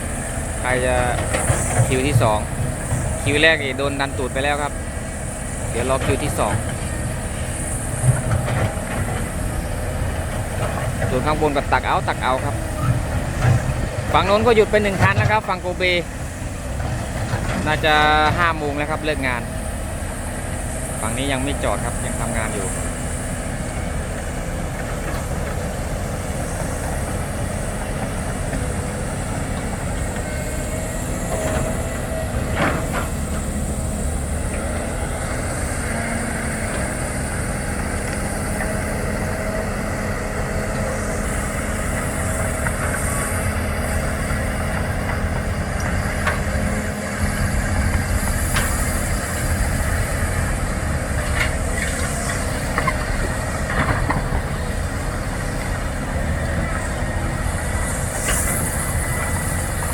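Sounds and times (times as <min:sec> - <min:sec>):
excavator engine rumble: 0:00.0 - 0:59.9.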